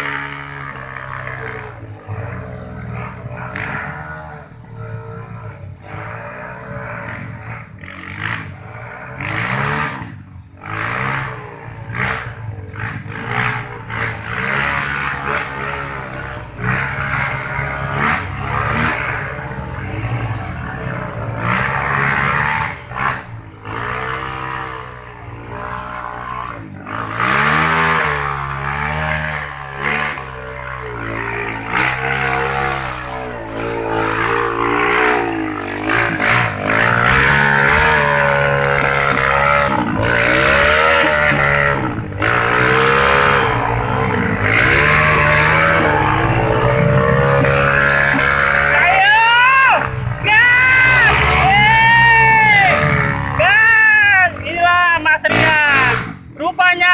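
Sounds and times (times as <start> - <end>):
motorcycle engines revving: 0.0 - 56.9.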